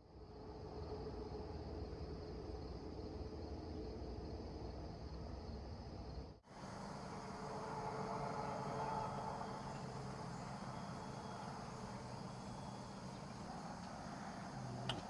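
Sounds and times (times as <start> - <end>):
faint outdoor ambience: 0.0 - 15.0
insects trilling: 0.3 - 15.0.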